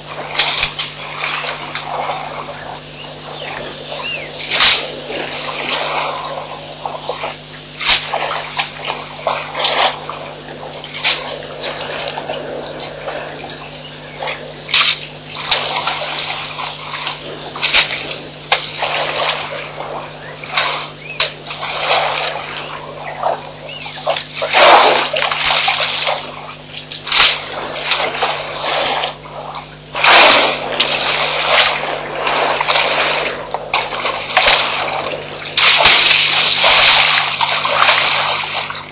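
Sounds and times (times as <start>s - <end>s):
elephant trunk splashing water: 0.0s - 38.9s
water squirting: 0.0s - 38.9s.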